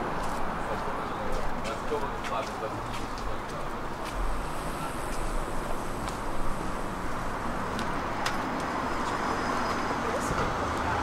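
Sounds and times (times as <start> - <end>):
passing car traffic: 0.0 - 11.0.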